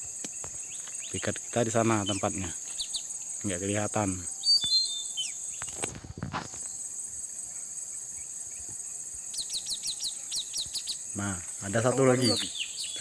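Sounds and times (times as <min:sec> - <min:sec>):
bird chirping: 0:00.0 - 0:06.0, 0:06.6 - 0:13.0
high-pitched insect drone: 0:00.0 - 0:13.0.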